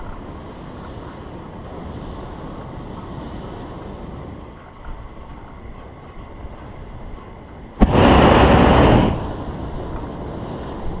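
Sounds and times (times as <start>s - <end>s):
low steady rumble: 0.0s - 11.0s
propane burner roar: 0.0s - 11.0s.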